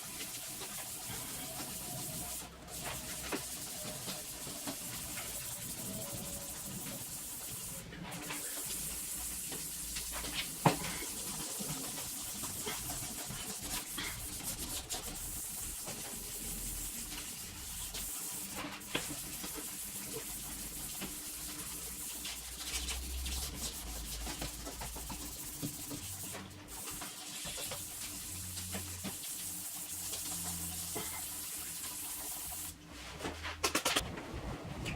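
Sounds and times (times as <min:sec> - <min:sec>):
sandpaper scratching on plastic: 0:00.0 - 0:32.7.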